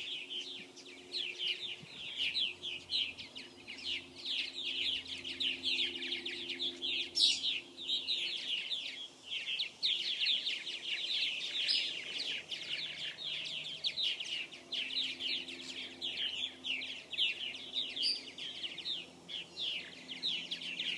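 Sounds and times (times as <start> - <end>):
colony of birds chattering: 0.0 - 20.9.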